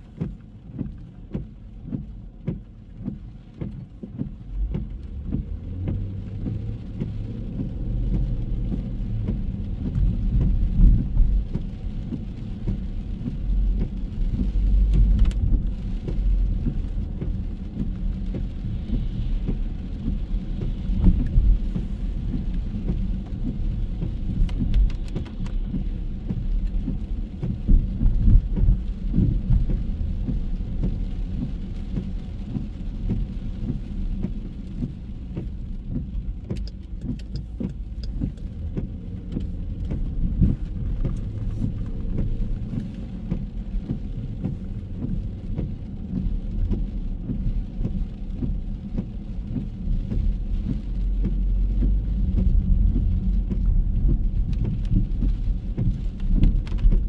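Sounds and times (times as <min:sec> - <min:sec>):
traffic rumble: 0:00.0 - 0:57.0.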